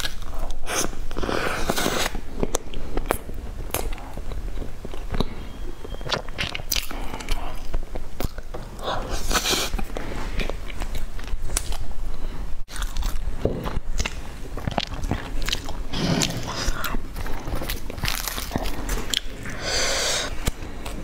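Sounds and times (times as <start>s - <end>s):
person chewing crunchy bread: 0.0s - 21.0s.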